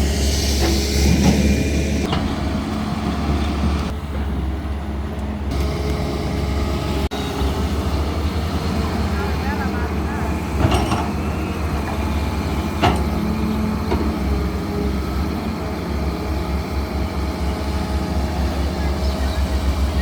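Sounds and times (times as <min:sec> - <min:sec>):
diesel engines droning: 0:00.0 - 0:20.0.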